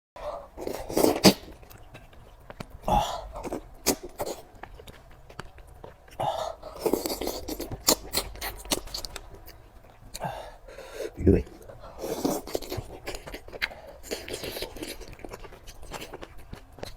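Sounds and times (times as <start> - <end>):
slurps and mouth noises: 0.3 - 10.2, 10.9 - 16.9.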